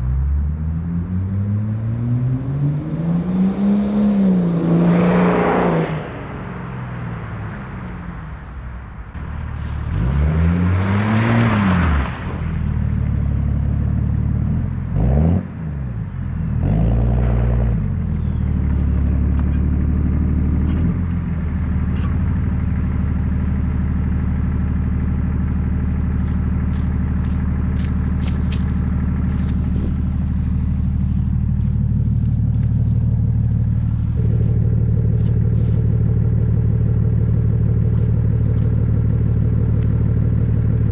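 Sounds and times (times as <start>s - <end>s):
diesel engine revving and idling: 0.0s - 40.9s.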